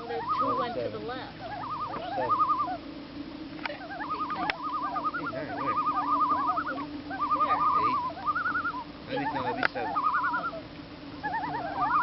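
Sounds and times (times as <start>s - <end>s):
loons tremolo calling: 0.0s - 12.0s
steady low hum: 0.0s - 12.0s.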